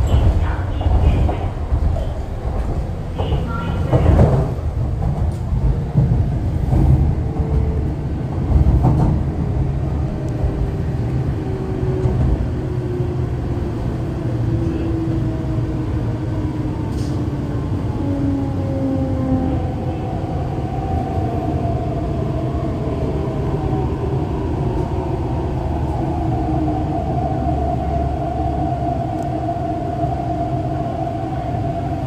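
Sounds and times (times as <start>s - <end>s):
train rumbling on track: 0.0s - 32.0s.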